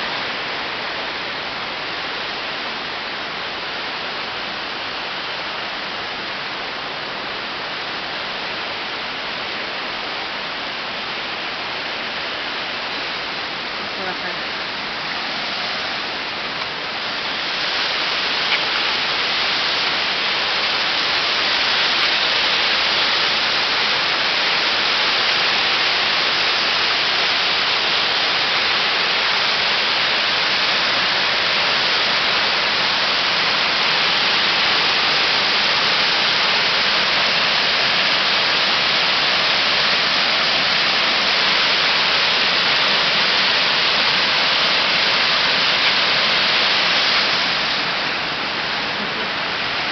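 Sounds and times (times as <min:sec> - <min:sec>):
water rushing over weir: 0:00.0 - 0:49.9.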